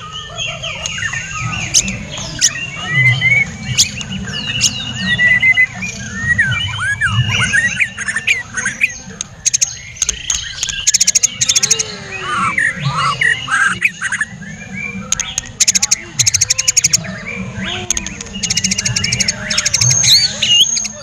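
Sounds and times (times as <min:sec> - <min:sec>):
bird sharp clicking notes: 0:00.7 - 0:05.7, 0:06.7 - 0:14.3, 0:15.0 - 0:17.1, 0:17.8 - 0:21.0
bird singing sliding whistles: 0:00.8 - 0:17.1, 0:17.7 - 0:21.0.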